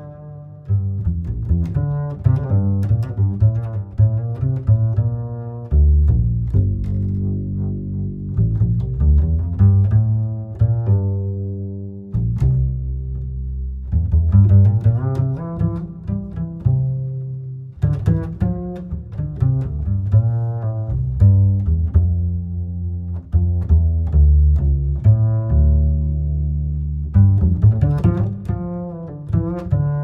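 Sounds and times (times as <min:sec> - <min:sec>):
instrumental music with strong bass: 0:00.0 - 0:30.0.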